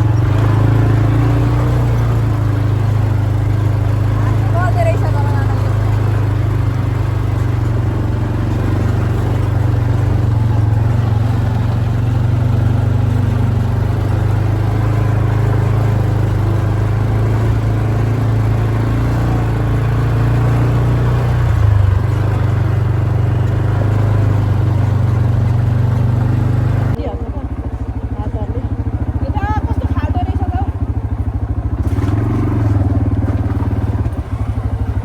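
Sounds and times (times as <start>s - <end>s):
quad bike engine droning: 0.0s - 35.0s.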